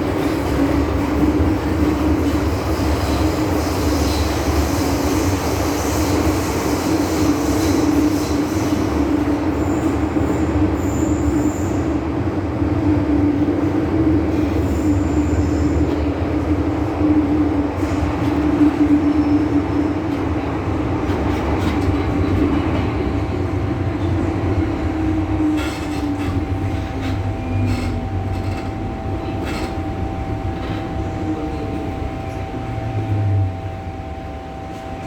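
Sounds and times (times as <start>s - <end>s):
metro train running: 0.0s - 35.0s.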